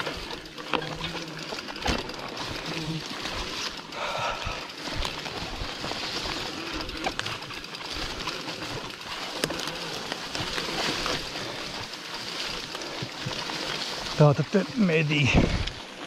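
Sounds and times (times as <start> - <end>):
bicycle tyres rustling through grass: 0.0 - 16.0
bike rattles and clicks: 0.0 - 16.0.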